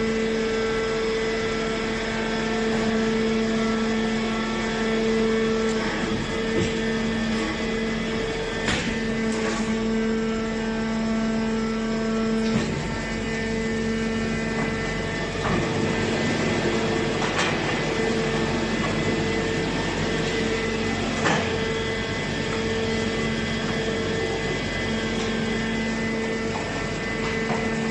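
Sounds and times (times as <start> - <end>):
baler machine humming: 0.0 - 27.9.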